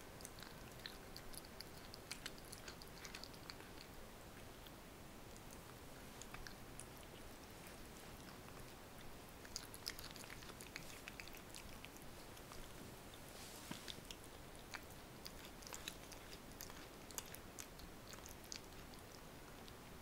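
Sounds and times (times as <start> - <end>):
cat chewing: 0.0 - 20.0.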